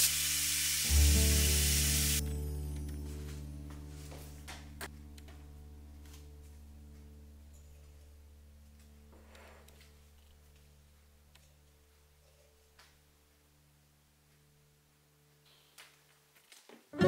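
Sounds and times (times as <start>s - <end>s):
low sustained background tones: 0.8s - 15.4s.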